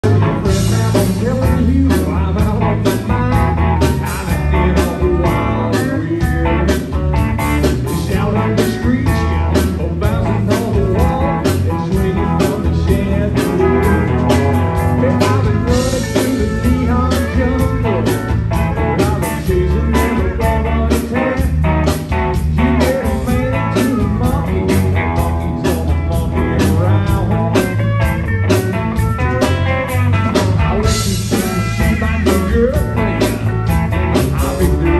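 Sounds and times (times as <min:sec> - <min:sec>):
acoustic guitar: 0:00.0 - 0:34.9
bass guitar: 0:00.0 - 0:34.9
drum kit beat: 0:00.0 - 0:34.9
electric guitar: 0:00.0 - 0:34.9
pedal steel guitar: 0:00.0 - 0:34.9.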